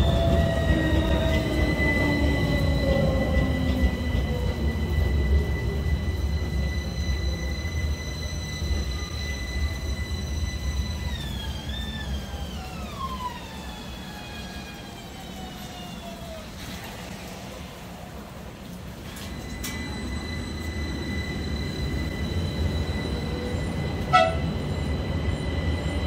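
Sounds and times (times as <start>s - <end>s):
tram electric whine: 0.0s - 26.0s.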